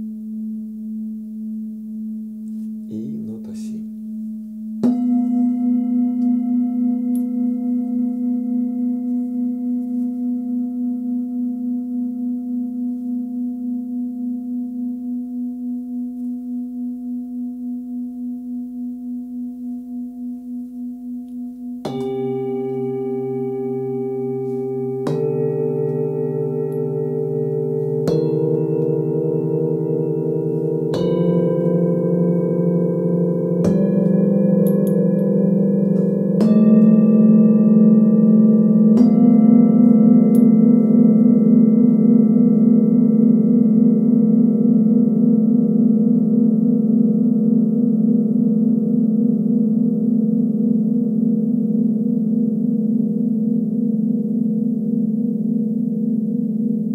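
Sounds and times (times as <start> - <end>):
singing bowl ringing: 0.0 - 56.9.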